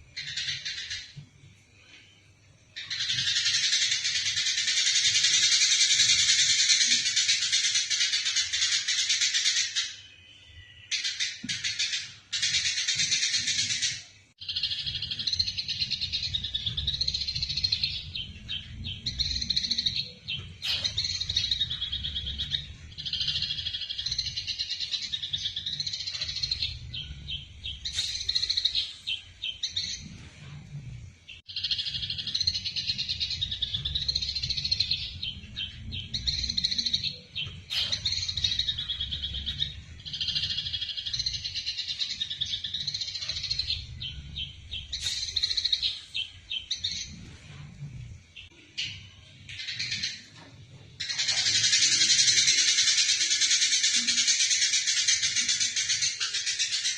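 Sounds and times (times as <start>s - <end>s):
sparrows chattering: 0.0s - 1.2s, 2.8s - 47.3s, 51.0s - 56.9s.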